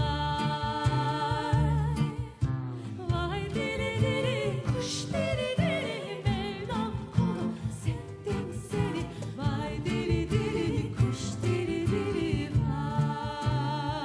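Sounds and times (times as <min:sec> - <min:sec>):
acoustic band with double bass: 0:00.0 - 0:14.0
women singing folk song: 0:00.0 - 0:14.0.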